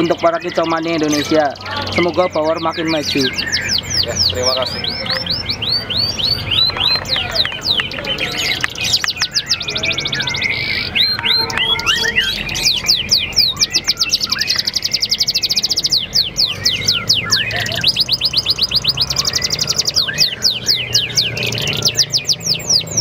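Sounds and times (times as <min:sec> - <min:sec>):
canary singing trills: 0:00.0 - 0:23.0.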